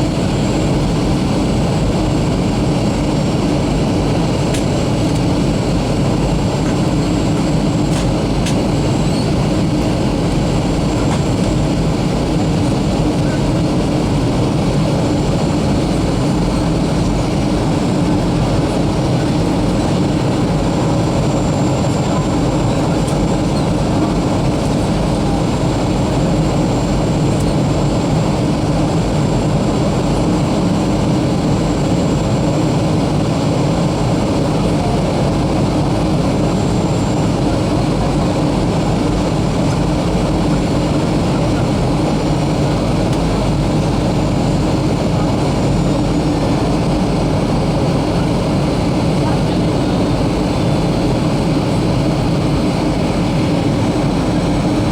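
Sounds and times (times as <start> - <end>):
jet engine rumble: 0.0 - 54.9.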